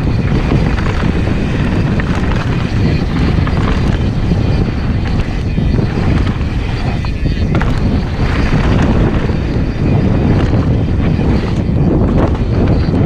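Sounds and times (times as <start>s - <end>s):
bike rattling ticks: 0.0s - 13.0s
tyres over loose dirt: 0.0s - 13.0s
wind buffeting microphone: 0.0s - 13.0s.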